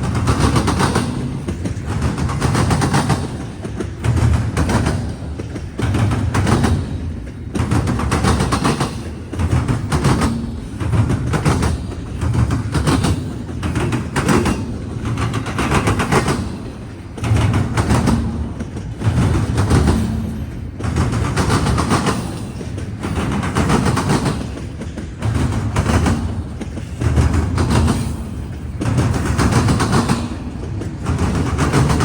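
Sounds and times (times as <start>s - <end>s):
rumble of rolling freight cars: 0.0s - 32.0s
train wheels banging over crossing: 0.0s - 32.0s.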